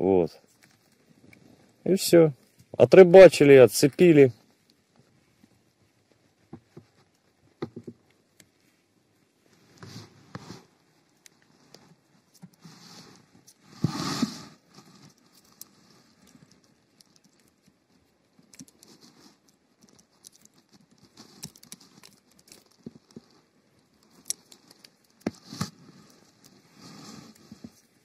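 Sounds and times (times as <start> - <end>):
handling clicks and rustles: 0.4 - 28.0.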